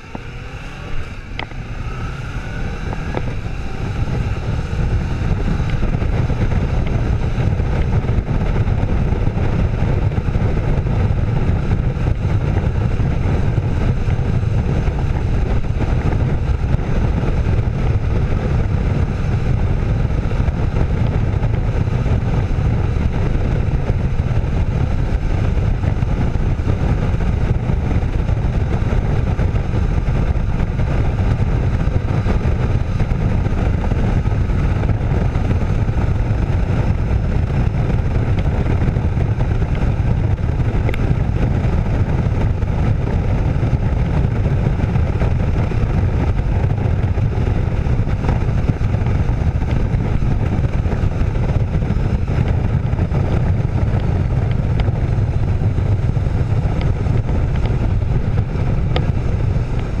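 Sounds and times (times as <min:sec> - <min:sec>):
motorcycle engine: 0:00.0 - 1:00.0
wind buffeting microphone: 0:00.0 - 1:00.0.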